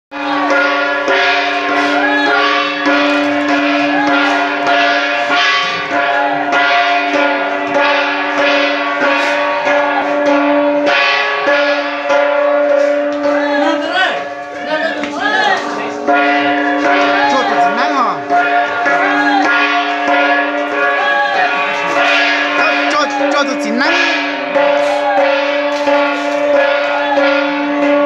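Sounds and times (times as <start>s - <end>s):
gong struck ringing: 0.2s - 28.0s.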